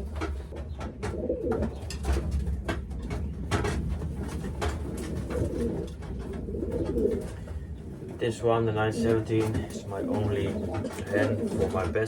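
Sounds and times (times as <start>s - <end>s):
clicks and rustles: 0.0s - 8.3s, 8.9s - 12.0s
pigeons cooing: 0.0s - 12.0s.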